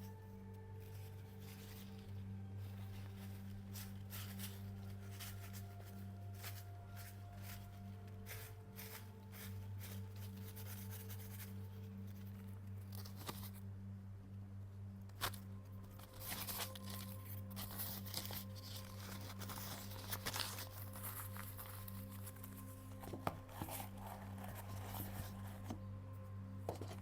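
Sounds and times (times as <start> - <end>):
soft rustling and scraping: 0.0 - 13.7, 15.1 - 27.0
steady low hum: 0.0 - 27.0.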